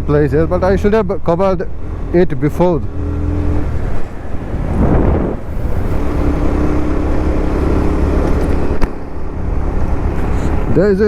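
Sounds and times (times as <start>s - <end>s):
wind and road noise: 0.0s - 11.0s
motorcycle engine running: 1.7s - 10.8s.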